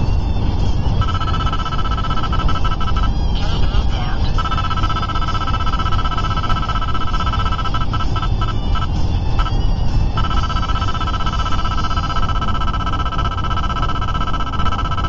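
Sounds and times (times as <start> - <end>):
radar detector rapid beeping: 0.0 - 15.0
road noise inside car: 0.0 - 15.0.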